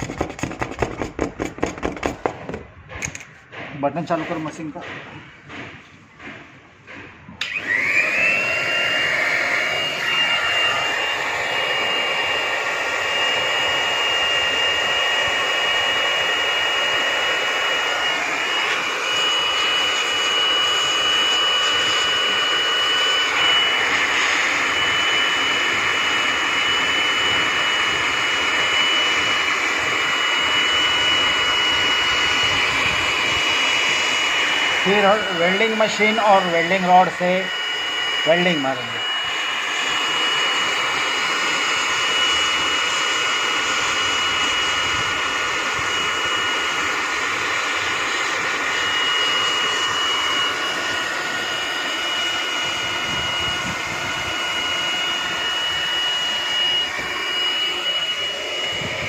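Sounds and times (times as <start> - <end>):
hot-air welder blower whine: 0.0 - 59.0.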